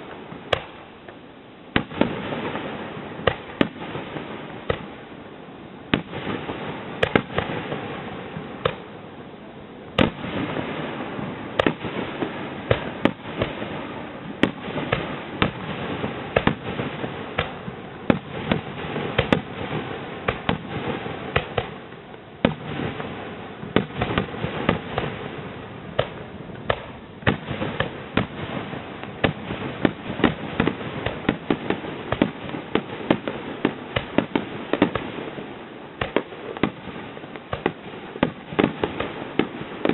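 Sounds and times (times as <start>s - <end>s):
fireworks bangs: 0.0s - 9.2s, 9.9s - 39.9s
fireworks crackling: 0.0s - 39.9s.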